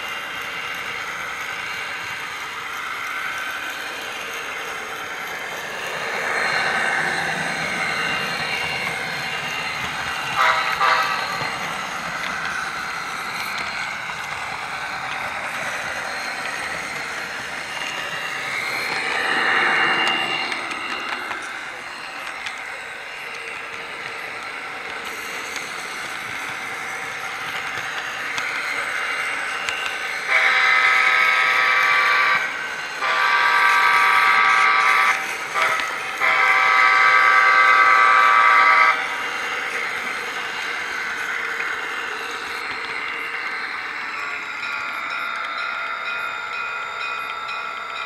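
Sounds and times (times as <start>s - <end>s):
model train rolling on track: 0.0s - 48.0s.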